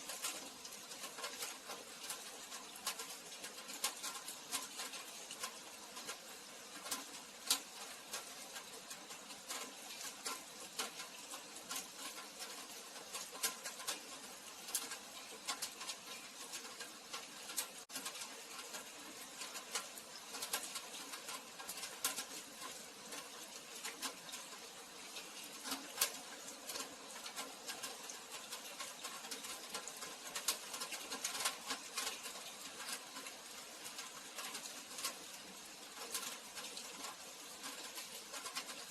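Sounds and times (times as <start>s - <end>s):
rain hiss: 0.0s - 38.9s
raindrops tapping on hard surfaces: 0.0s - 38.9s.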